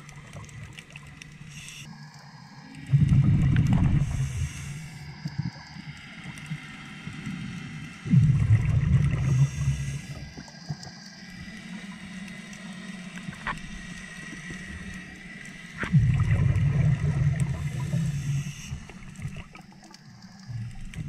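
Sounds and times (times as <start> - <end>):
exhaled bubbles rumbling underwater: 0.0 - 21.0.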